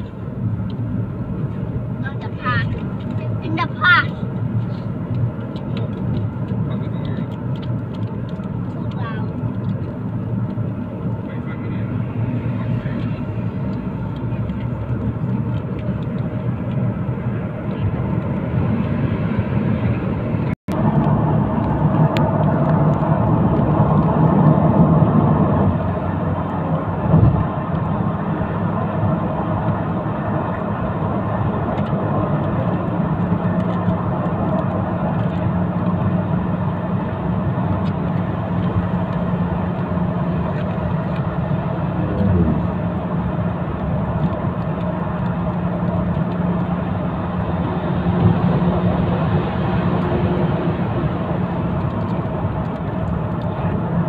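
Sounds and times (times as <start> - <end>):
vehicle road noise: 0.0 - 54.0.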